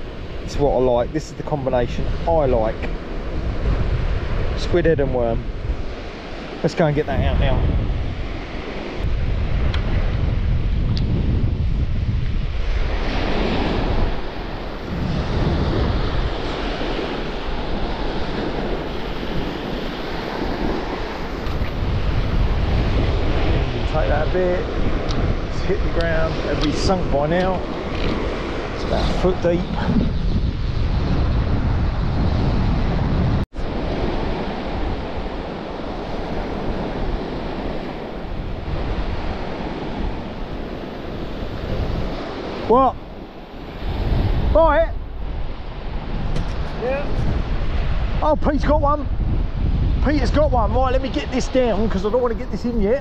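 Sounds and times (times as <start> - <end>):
surf washing onto beach: 0.0 - 53.0
wind rumbling on microphone: 0.0 - 53.0.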